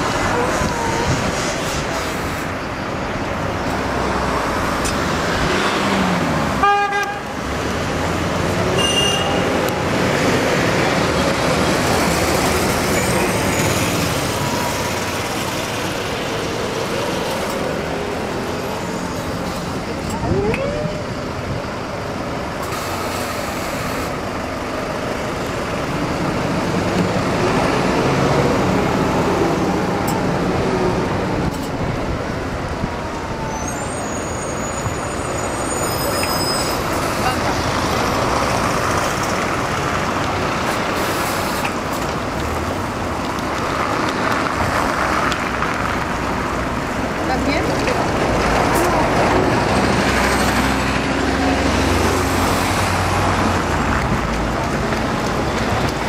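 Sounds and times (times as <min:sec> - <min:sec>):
city street traffic: 0:00.0 - 0:56.0.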